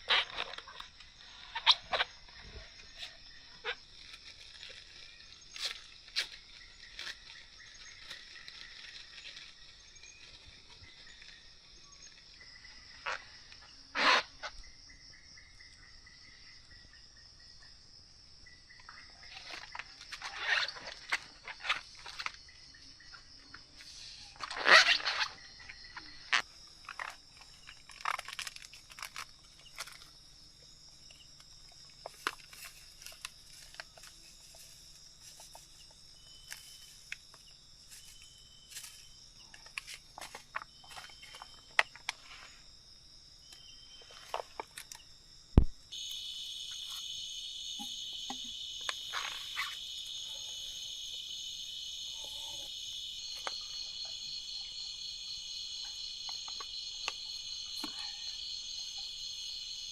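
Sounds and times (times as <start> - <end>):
crickets and insects chirping: 0.0 - 59.9.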